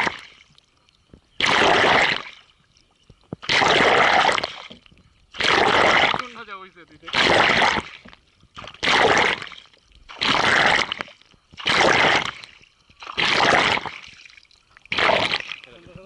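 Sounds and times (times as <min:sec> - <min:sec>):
kayak paddle splashing: 0:00.0 - 0:16.0.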